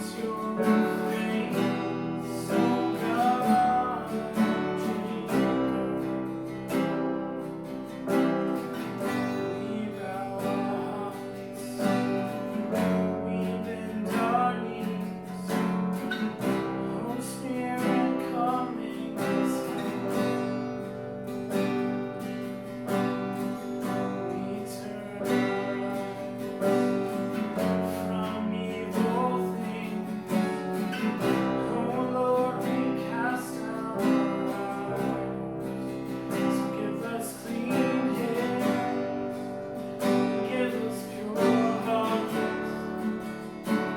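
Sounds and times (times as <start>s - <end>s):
person singing: 0.0s - 21.1s, 22.9s - 43.9s
strummed acoustic guitar: 0.0s - 43.9s.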